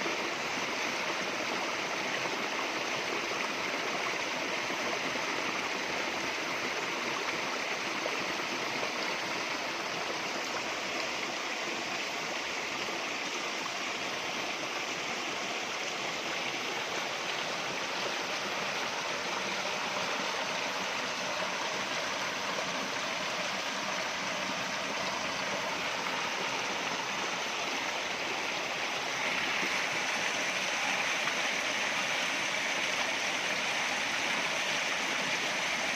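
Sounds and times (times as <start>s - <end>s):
stream rushing over rocks: 0.0s - 35.9s.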